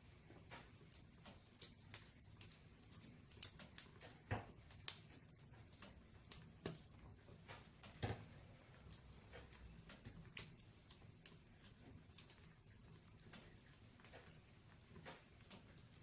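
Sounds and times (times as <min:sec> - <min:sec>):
firewood crackling in fireplace: 0:00.0 - 0:16.0.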